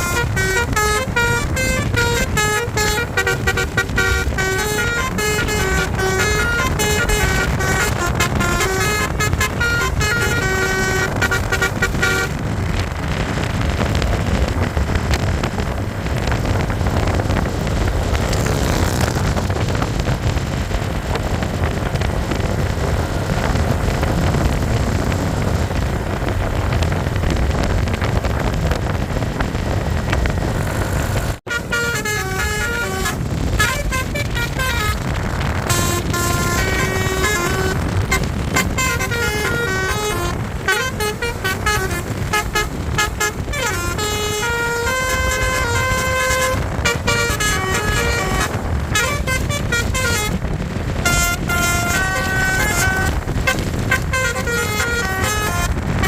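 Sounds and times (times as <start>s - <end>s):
musical bus horn melody: 0.0s - 19.7s, 30.8s - 56.0s
vehicle engine and road noise: 0.0s - 56.0s.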